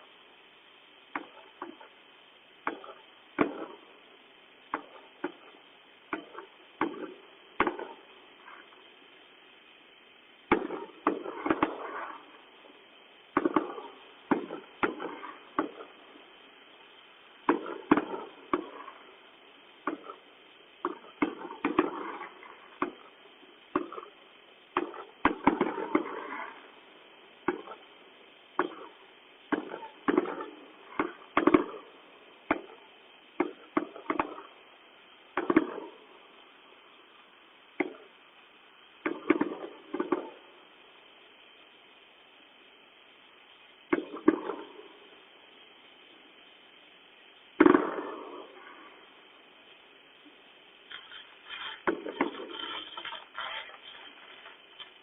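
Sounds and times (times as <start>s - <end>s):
fireworks bangs and crackling: 0.9s - 41.8s, 42.6s - 55.0s.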